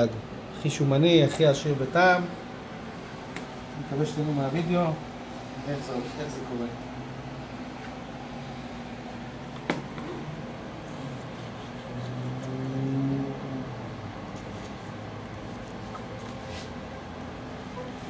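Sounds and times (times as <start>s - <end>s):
refrigeration equipment hum: 0.0s - 18.0s.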